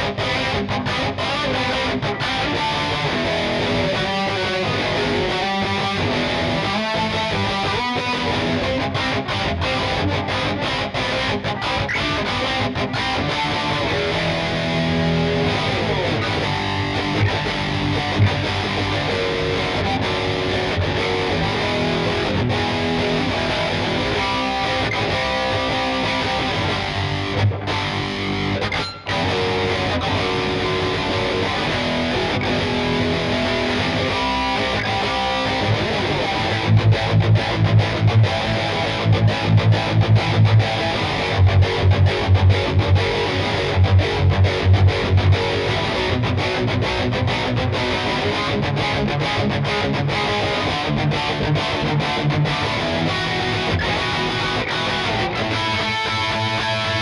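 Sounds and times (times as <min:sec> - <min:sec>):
distorted electric guitar riffing: 0:00.0 - 0:57.0.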